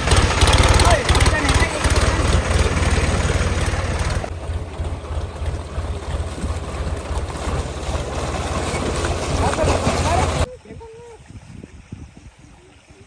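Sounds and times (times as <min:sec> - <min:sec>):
tractor diesel engine chugging: 0:00.0 - 0:10.5.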